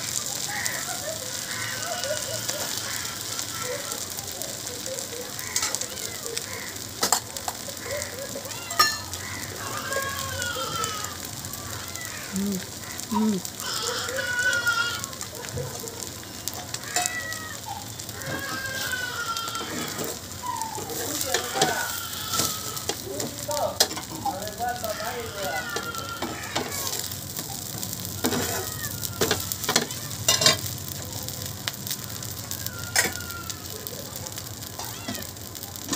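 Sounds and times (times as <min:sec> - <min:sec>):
batter sizzling on a hot griddle: 0:00.0 - 0:35.9.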